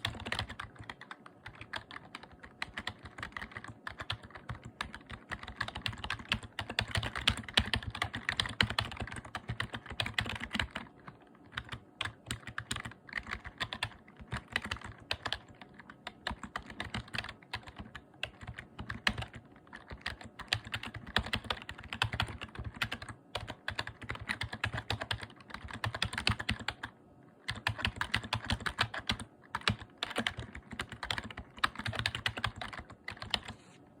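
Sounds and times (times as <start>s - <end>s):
fast typing on keyboard: 0.0s - 33.6s.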